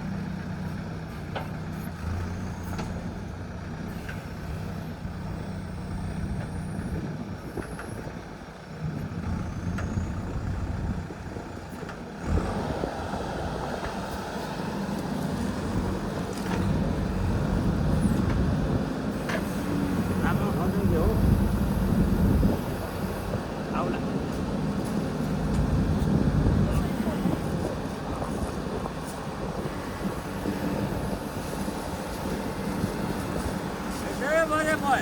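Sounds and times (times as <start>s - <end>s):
backhoe diesel engine working: 0.0s - 35.0s.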